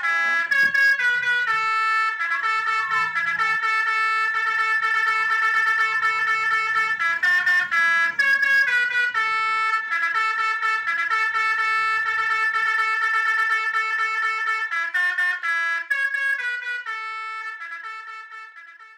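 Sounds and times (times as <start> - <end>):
horn playing a melody: 0.0 - 18.9.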